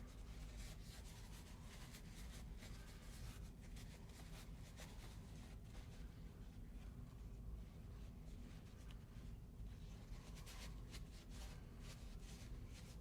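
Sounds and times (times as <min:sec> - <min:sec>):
scratching and rubbing strokes: 0:00.0 - 0:13.0.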